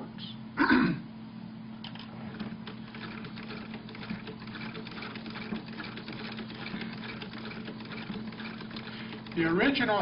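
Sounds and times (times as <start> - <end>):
sewing machine clicking: 1.8 - 10.0.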